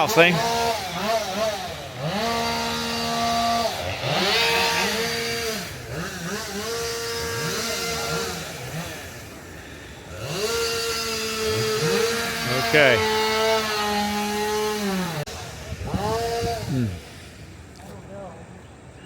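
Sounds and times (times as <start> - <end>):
chainsaw revving: 0.0 - 17.7.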